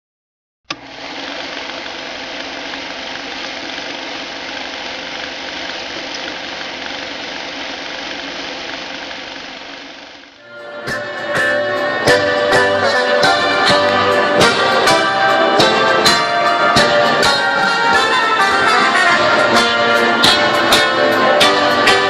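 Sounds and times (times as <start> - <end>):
film projector running: 0.7 - 10.4, 11.9 - 22.0.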